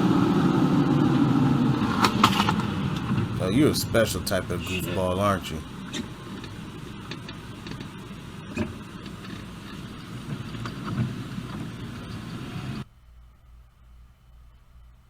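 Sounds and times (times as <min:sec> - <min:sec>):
car road and engine noise: 0:00.0 - 0:12.8.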